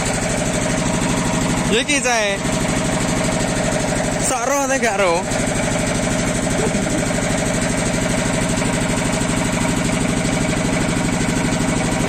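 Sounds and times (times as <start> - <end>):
diesel generator chugging: 0.0 - 12.0.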